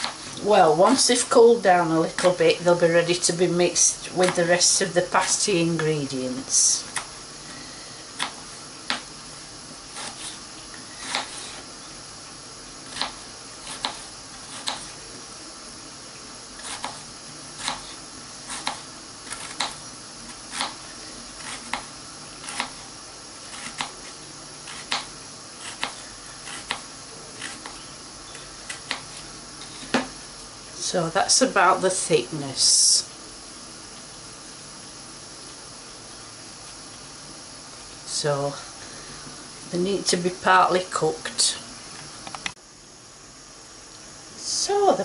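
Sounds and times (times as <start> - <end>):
faint steady hiss: 0.0 - 45.0.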